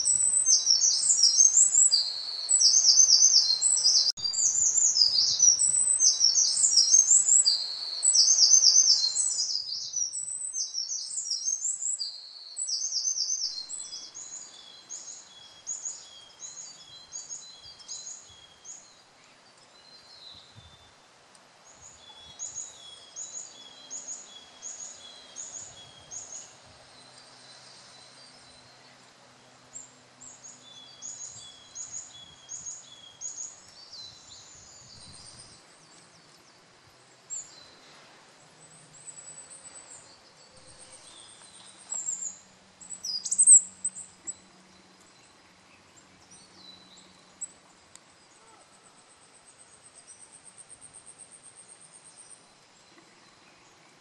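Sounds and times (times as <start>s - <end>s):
wren trilling song: 0.0s - 21.0s, 21.6s - 53.9s.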